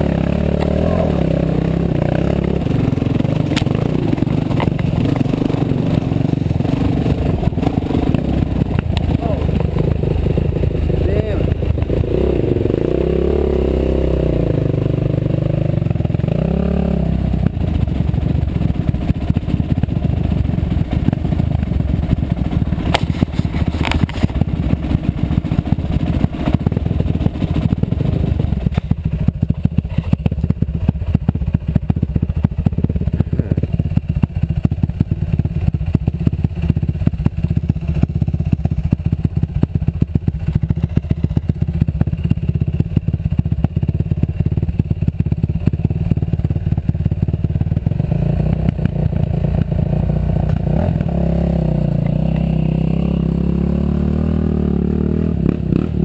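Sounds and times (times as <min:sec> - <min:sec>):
bike rattling over bumps: 0:00.0 - 0:13.2, 0:17.1 - 0:53.4
dirt bike engine running: 0:00.0 - 0:56.0.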